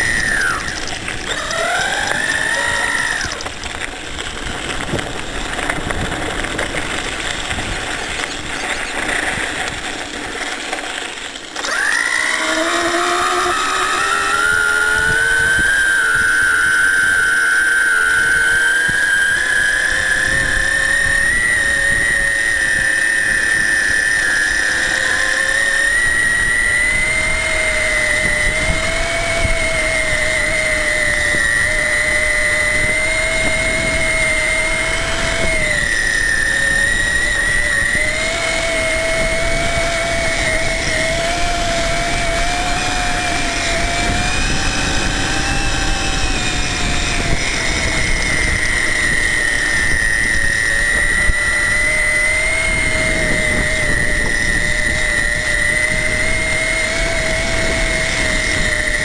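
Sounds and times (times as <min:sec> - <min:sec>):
electric motor high whine: 0:00.0 - 0:59.0.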